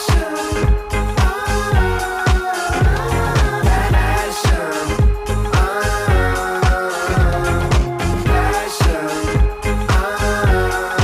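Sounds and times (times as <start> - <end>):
funk soul music: 0.0 - 11.0.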